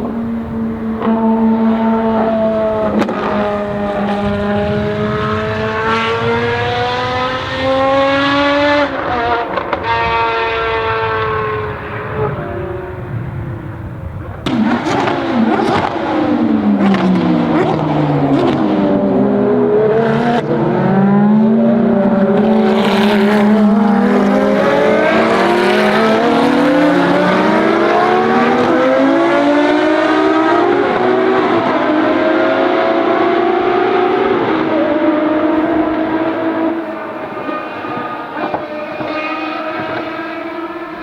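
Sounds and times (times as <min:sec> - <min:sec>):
racing engine revving: 0:00.0 - 0:13.4, 0:14.4 - 0:41.0.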